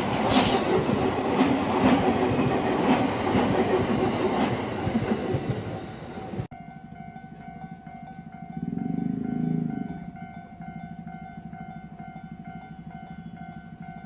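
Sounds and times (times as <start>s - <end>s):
train passing: 0.0s - 14.0s
wheels clicking over rail joints: 0.0s - 14.0s.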